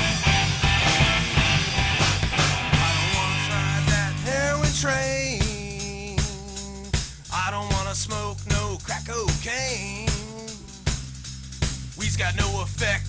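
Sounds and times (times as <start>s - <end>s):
drum kit: 0.0s - 13.0s
rock music: 0.0s - 13.0s.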